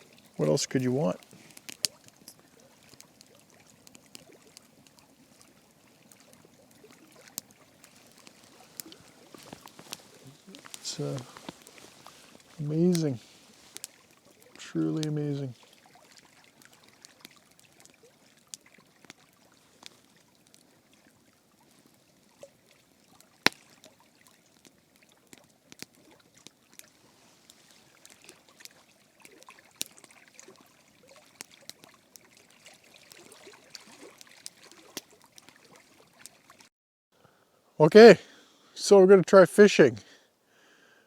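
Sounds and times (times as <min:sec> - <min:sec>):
campfire popping and crackling: 0:00.0 - 0:36.7
water lapping and trickling: 0:00.0 - 0:37.8.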